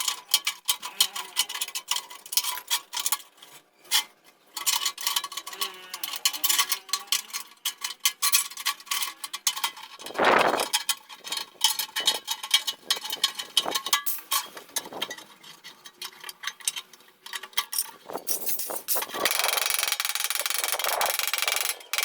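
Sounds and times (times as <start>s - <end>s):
metal tools clinking: 0.0s - 22.0s.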